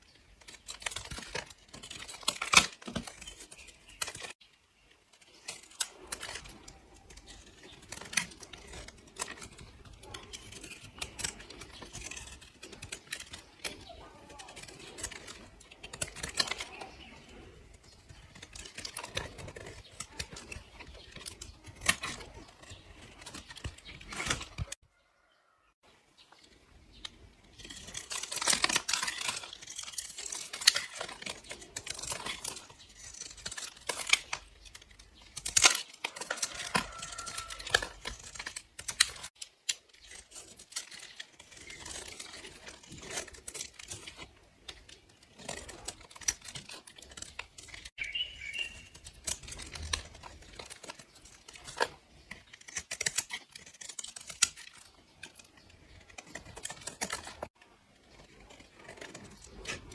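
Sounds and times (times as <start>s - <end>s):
blade crunching through soap: 0.0s - 4.4s, 5.1s - 24.8s, 26.8s - 59.9s.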